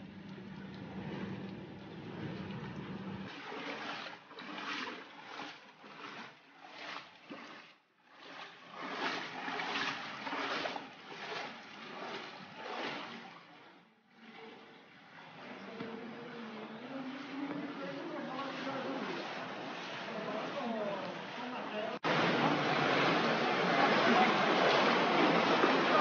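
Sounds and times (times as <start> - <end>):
footsteps wading through water: 0.0 - 26.0.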